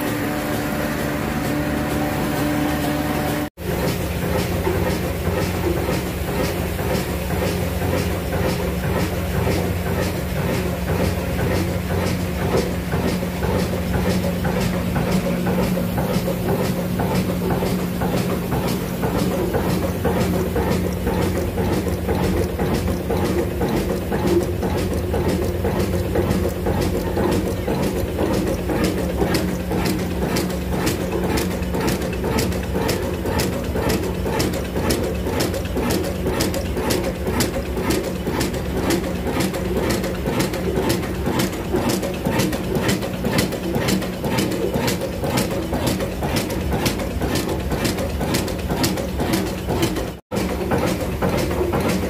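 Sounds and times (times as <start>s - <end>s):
diesel engine knocking: 0.0s - 52.0s.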